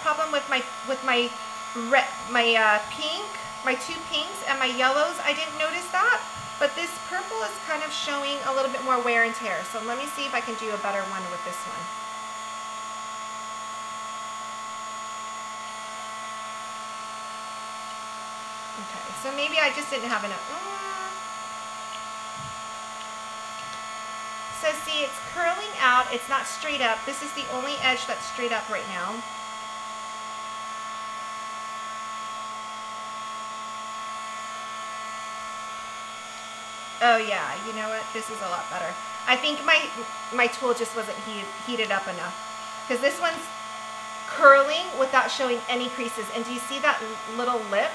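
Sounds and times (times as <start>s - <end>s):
heat tool blowing hot air: 0.0s - 47.9s.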